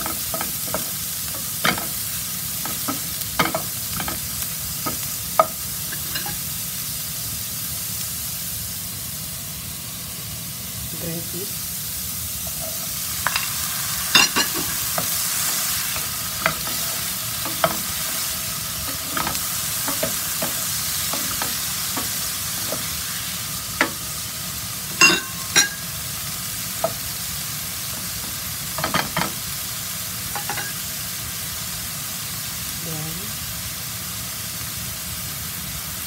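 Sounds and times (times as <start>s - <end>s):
vegetables sizzling in frying pan: 0.0s - 36.0s.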